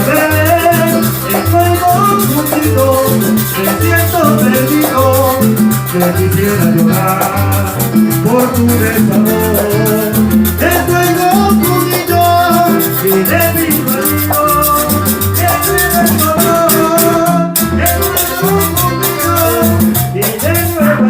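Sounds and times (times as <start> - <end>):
bass line: 0.0 - 21.0
quick percussion beat: 0.0 - 21.0
salsa band playing: 0.0 - 21.0.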